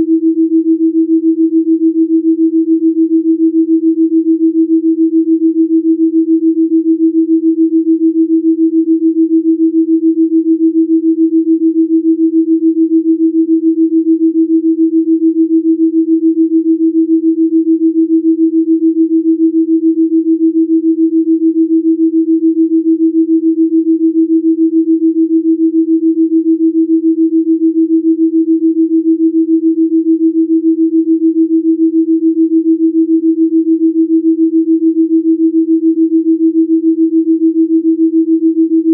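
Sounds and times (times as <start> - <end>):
pulsing pure sine tone: 0.0 - 38.9.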